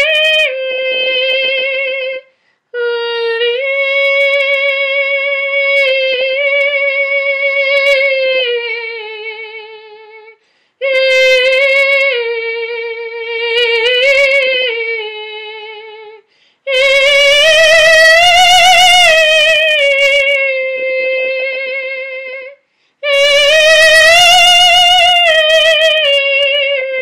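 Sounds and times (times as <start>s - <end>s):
woman singing long notes: 0.0s - 27.0s.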